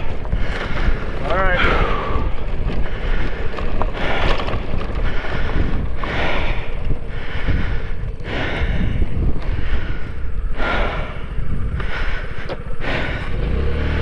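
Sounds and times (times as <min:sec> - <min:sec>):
heavy breathing: 0:00.0 - 0:14.0
wind buffeting microphone: 0:00.0 - 0:14.0.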